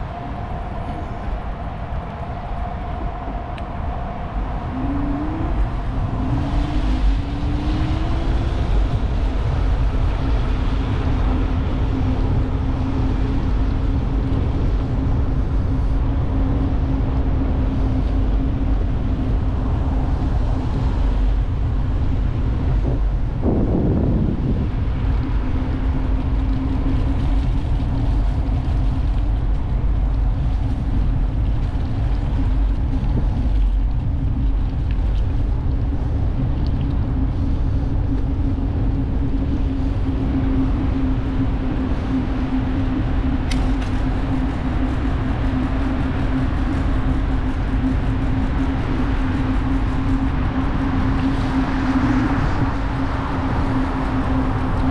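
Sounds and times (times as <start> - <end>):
road noise: 0.0 - 54.9
steady hum: 0.0 - 54.9
wind noise on microphone: 0.0 - 54.9.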